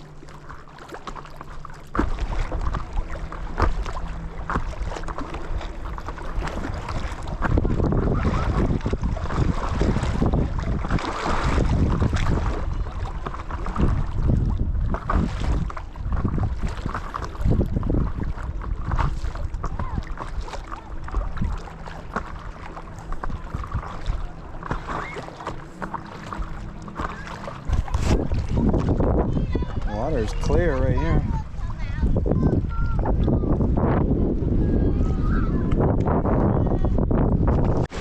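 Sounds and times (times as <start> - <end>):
paddle strokes splashing: 0.0 - 36.2, 37.4 - 38.0
choppy water slapping: 0.0 - 38.0
wind buffeting microphone: 1.9 - 38.0.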